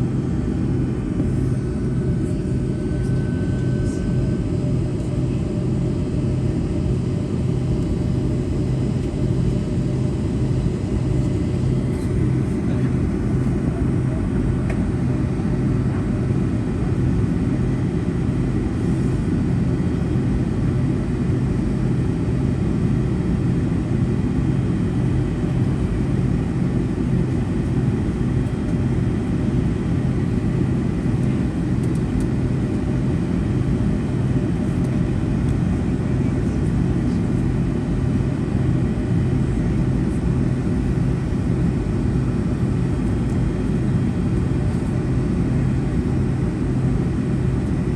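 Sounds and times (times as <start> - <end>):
airliner cabin low rumble: 0.0 - 47.9
constant hum: 0.0 - 47.9.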